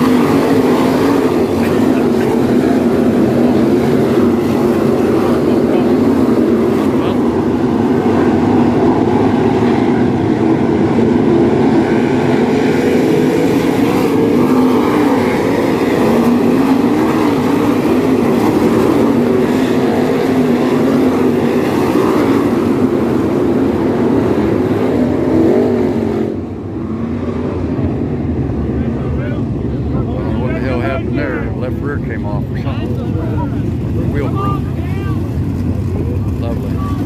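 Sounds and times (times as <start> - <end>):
race car engines: 0.0 - 37.0.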